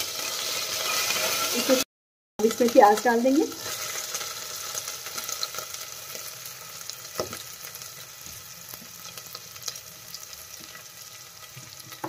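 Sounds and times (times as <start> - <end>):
onion sizzling in hot oil: 0.0 - 12.0.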